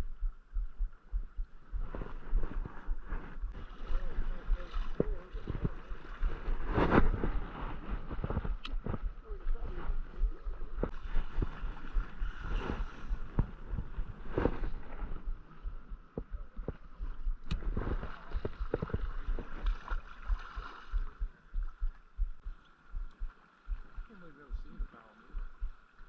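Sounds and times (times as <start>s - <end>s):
low thumps and knocks: 0.0s - 26.0s.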